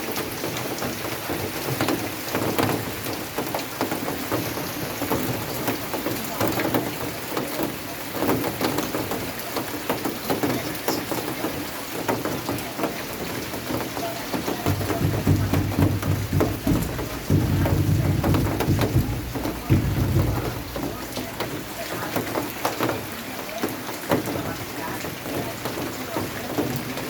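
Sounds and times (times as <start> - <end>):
rain pattering on hard surface: 0.0 - 27.0.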